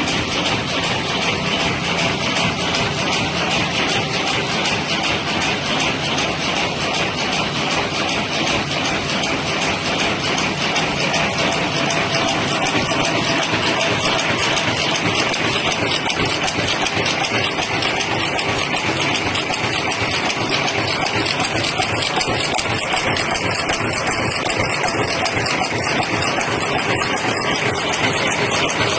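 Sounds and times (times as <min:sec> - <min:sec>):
machine rapid mechanical clatter: 0:00.0 - 0:28.9.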